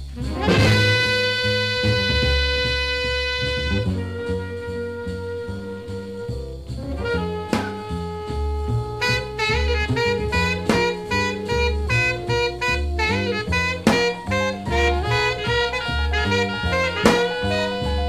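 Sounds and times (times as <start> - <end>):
double bass: 0.0 - 18.0
drums: 0.0 - 18.0
saxophones: 0.0 - 18.0.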